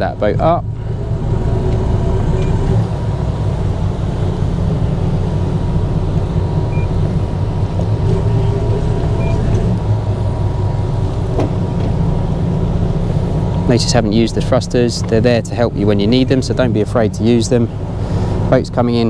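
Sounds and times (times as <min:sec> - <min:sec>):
boat diesel engines idling: 0:00.0 - 0:19.0.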